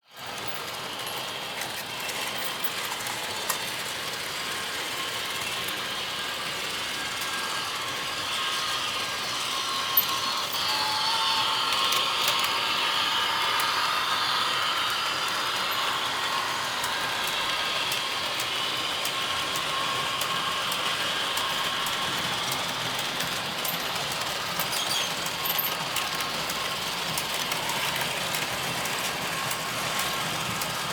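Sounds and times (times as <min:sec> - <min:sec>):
train wheels rattling on track: 0:00.2 - 0:30.9.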